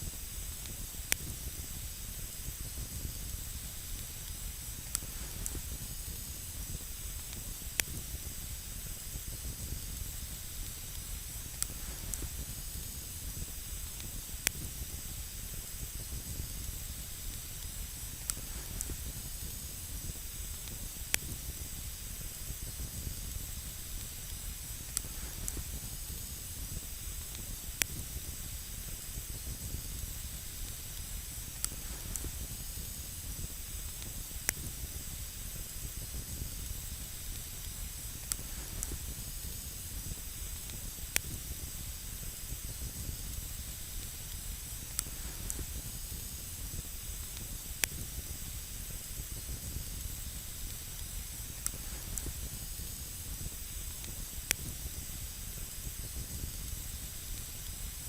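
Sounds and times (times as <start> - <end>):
campfire hissing: 0.0 - 58.0
burning wood popping: 0.6 - 57.9.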